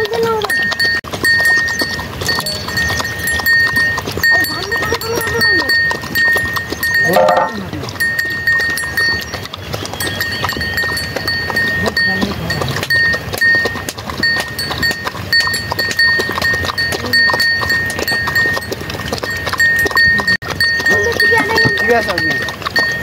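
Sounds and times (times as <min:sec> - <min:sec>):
sheep bells ringing: 0:00.0 - 0:23.0.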